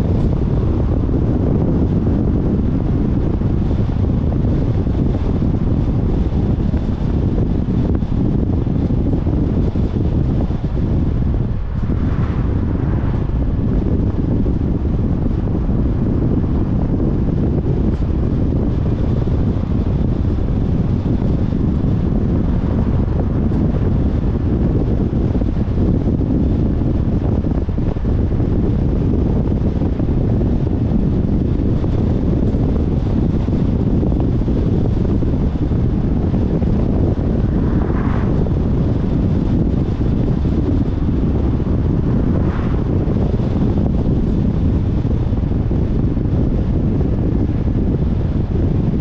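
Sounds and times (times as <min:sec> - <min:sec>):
car road noise: 0:00.0 - 0:49.0
wind buffeting microphone: 0:00.0 - 0:49.0.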